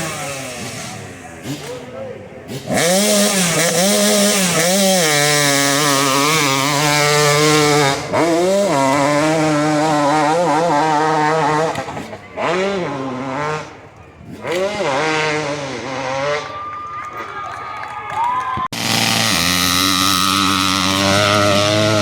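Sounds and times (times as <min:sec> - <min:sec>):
dirt bike engine at full throttle: 0:00.0 - 0:16.6, 0:18.7 - 0:22.0.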